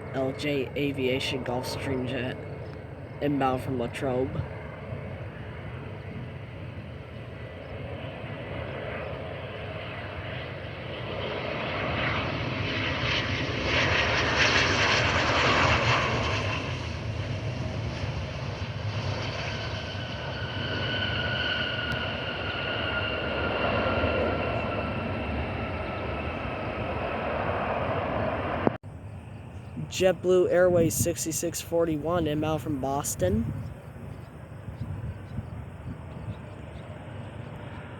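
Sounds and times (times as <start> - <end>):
jet engines roaring past: 0.0 - 37.9.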